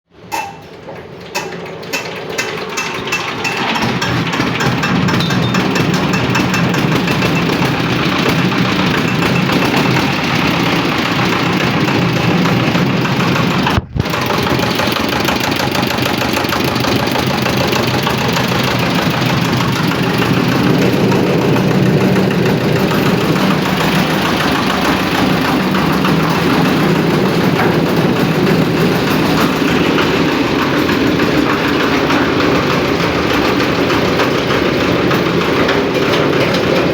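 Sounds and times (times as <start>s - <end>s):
diesel engine running: 1.2s - 36.9s.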